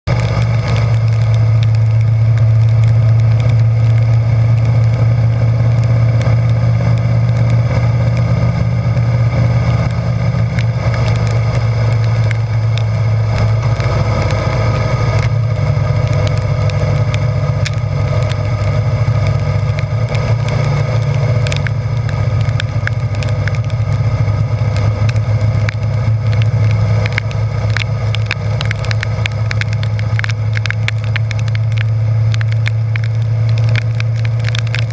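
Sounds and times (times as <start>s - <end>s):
motorcycle engine running: 0.0s - 34.9s
rain rushing: 0.0s - 34.9s
raindrops ticking on camera: 0.0s - 34.9s.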